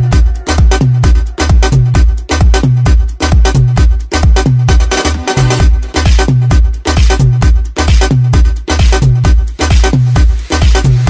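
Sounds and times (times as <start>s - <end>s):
electronic dance-pop music: 0.0s - 11.0s.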